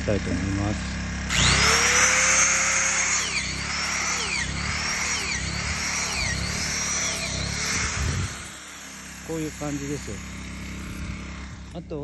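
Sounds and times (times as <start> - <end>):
electric drill boring into wood: 0.0 - 11.8.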